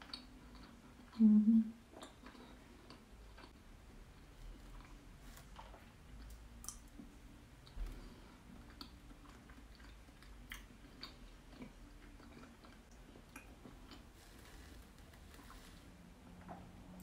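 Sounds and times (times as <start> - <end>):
person chewing food: 0.0 - 1.2, 1.8 - 17.0.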